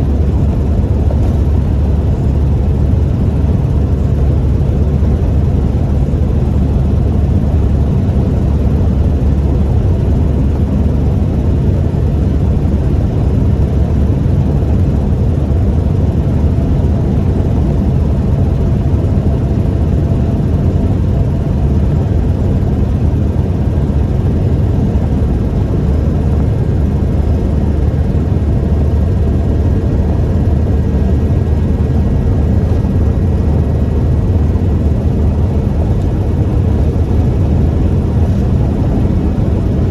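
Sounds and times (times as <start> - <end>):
pickup engine and road rumble: 0.0 - 39.9.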